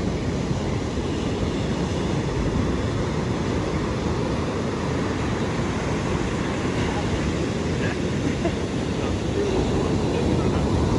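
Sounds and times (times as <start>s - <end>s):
surf: 0.0s - 10.9s
wind on microphone: 0.0s - 10.9s.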